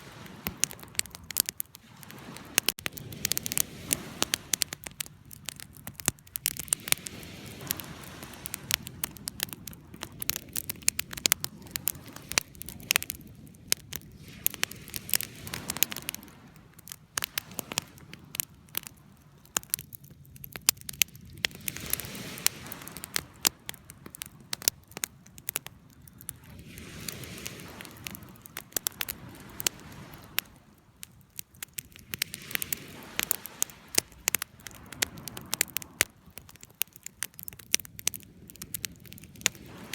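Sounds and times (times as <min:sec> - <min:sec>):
soft rushing of flames: 0:00.0 - 0:39.9
burning wood popping and snapping: 0:00.2 - 0:39.9.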